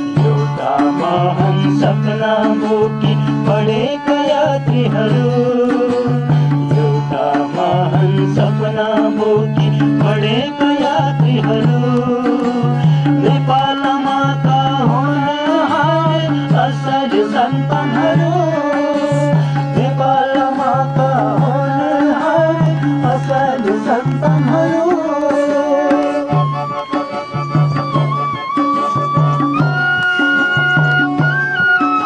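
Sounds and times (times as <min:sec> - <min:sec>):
hand drum beat: 0:00.0 - 0:32.0
wavering melody: 0:00.0 - 0:32.0.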